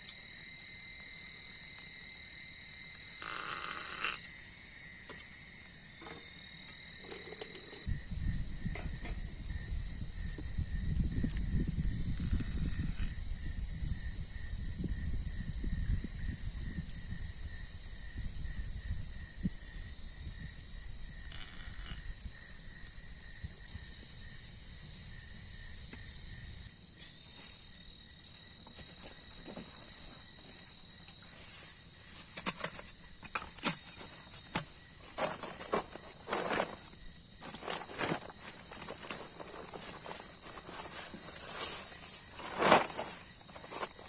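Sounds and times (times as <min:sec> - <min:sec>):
crickets chirring: 0:00.0 - 0:44.0.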